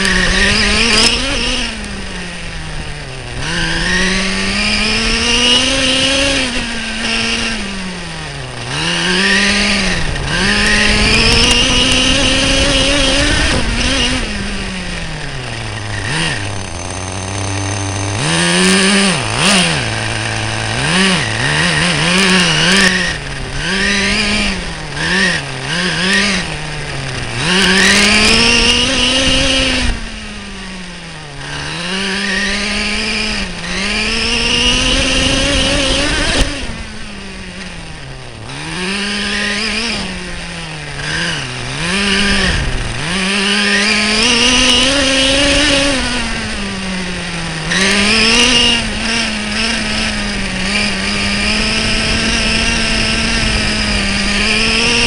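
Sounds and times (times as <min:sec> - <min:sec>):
small nitro engine revving: 0:00.0 - 0:55.0.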